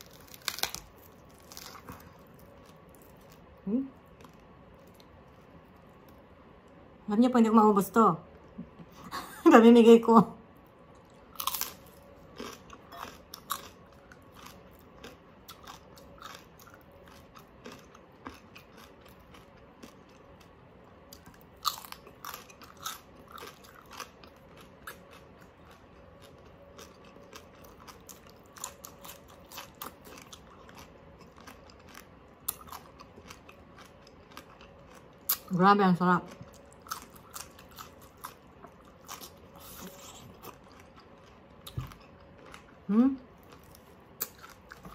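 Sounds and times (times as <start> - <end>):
chewing and crunching crispy pork: 0.0 - 6.2, 10.9 - 44.9.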